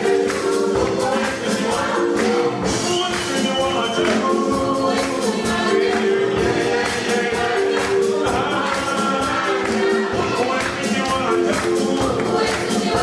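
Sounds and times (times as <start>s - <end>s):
children's choir singing: 0.0s - 13.0s
drum kit: 0.0s - 13.0s
keyboard: 0.0s - 13.0s.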